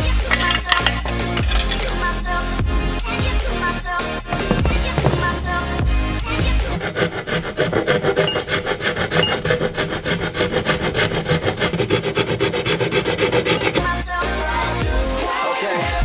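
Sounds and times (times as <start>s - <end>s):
hand file rasping on metal: 0.0s - 2.0s, 3.6s - 14.5s.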